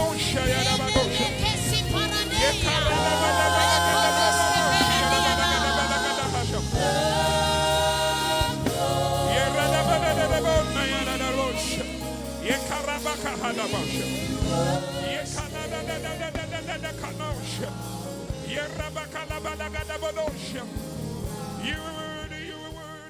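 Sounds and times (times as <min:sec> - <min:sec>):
church band playing: 0:00.0 - 0:23.0
voices singing along: 0:00.0 - 0:23.0.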